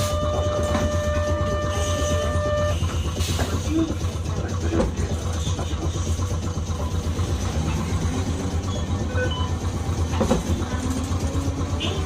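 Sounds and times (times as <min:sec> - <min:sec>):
streetcar clatter: 0:00.0 - 0:12.0
streetcar rumble: 0:00.0 - 0:12.0.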